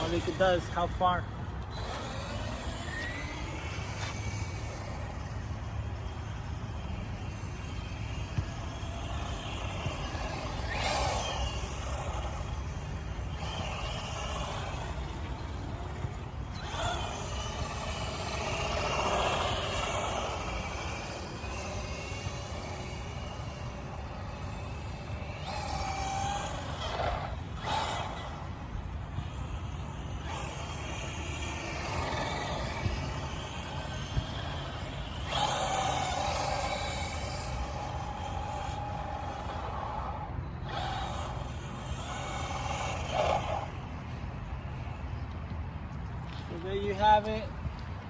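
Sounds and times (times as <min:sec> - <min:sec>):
rc truck motor whining: 0:00.0 - 0:48.0.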